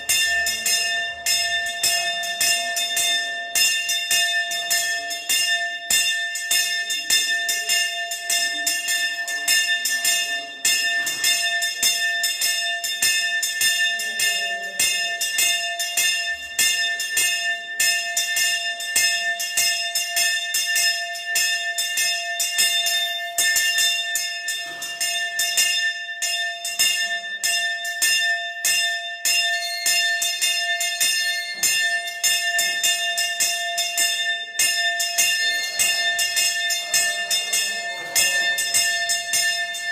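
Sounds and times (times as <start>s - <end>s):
hand bell ringing rapidly: 0.0s - 39.9s.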